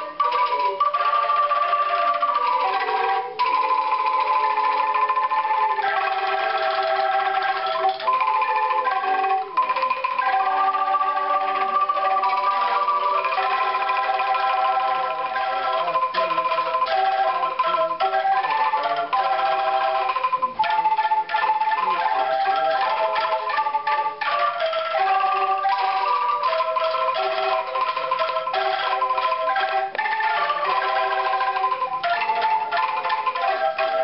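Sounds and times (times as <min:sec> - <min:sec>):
bamboo angklung ensemble rattling: 0:00.0 - 0:34.0.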